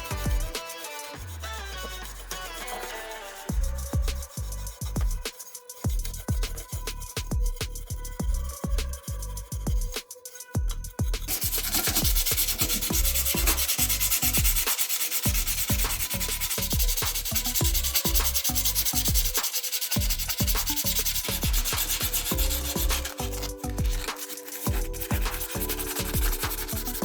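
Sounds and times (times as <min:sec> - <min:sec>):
sanding on a surface: 0:00.0 - 0:27.0.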